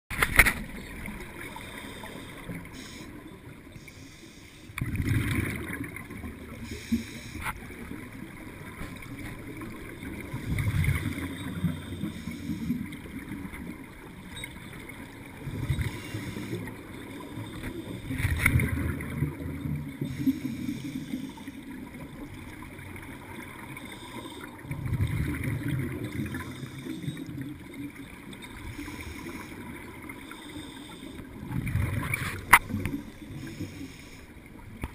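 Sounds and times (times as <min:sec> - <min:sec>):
underwater exhaled air bubbling: 0:04.8 - 0:34.9.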